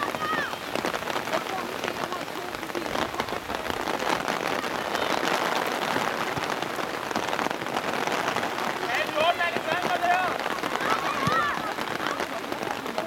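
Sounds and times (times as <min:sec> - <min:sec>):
rain falling: 0:00.0 - 0:13.0
raindrops ticking close: 0:00.0 - 0:13.0.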